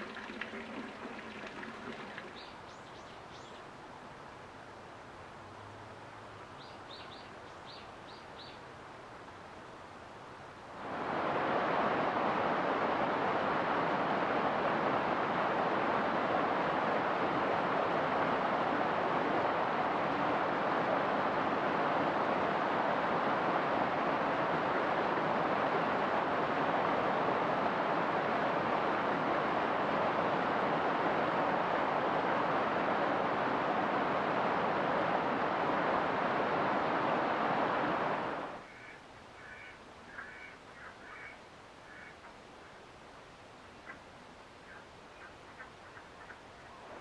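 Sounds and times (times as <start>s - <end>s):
stream rushing over rocks: 0.0s - 2.7s, 10.3s - 47.0s.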